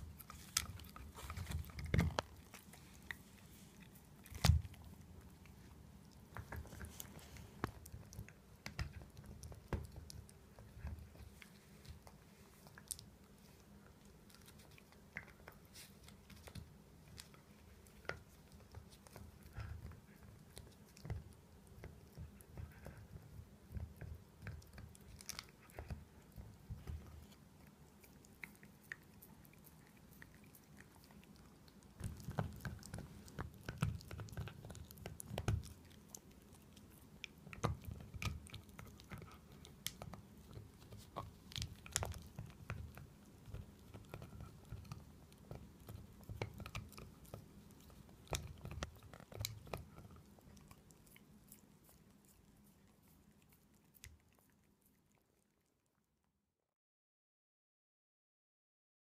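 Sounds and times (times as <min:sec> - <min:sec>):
dog gnawing chew toy: 0:00.0 - 0:56.0.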